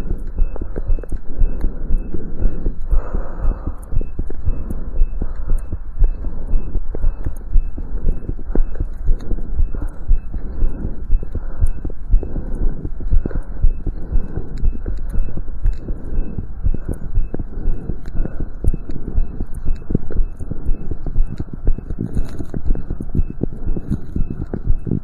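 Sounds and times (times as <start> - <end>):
heartbeat through stethoscope: 0.0 - 25.0.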